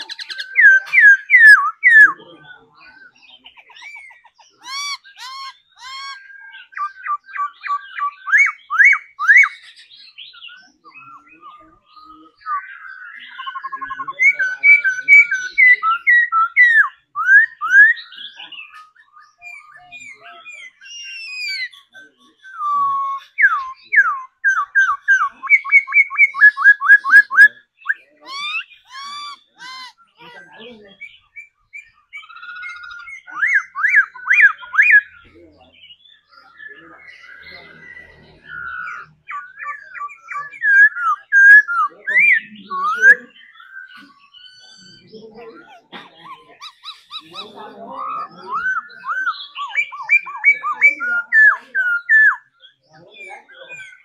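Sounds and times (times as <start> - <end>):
bird singing whistled phrases: 0.0 - 30.1, 31.0 - 35.3, 36.0 - 45.2, 46.5 - 52.8.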